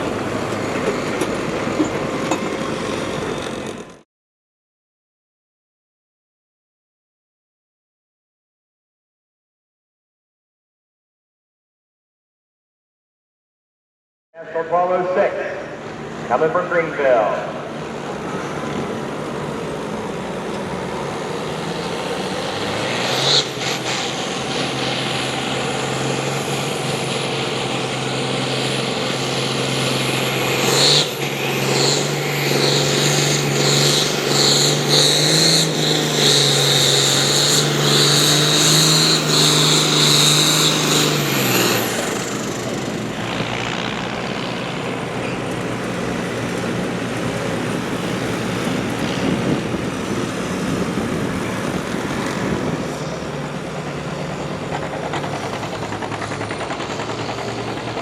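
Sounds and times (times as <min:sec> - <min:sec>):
tractor engine working hard: 0:00.0 - 0:04.0, 0:14.4 - 0:58.0.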